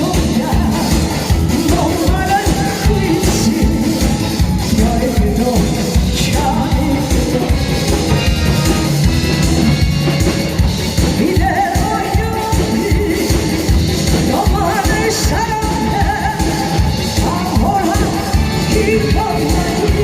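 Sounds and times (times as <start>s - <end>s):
amplified music with drum beat: 0.0s - 20.0s
person singing: 0.0s - 20.0s.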